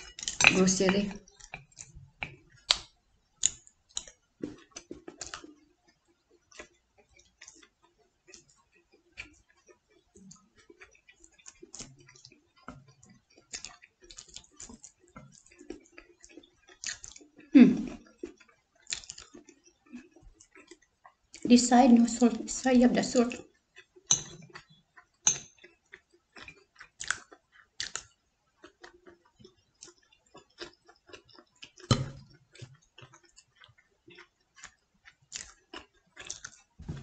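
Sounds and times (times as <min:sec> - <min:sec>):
quiet chewing: 0:00.0 - 0:37.0.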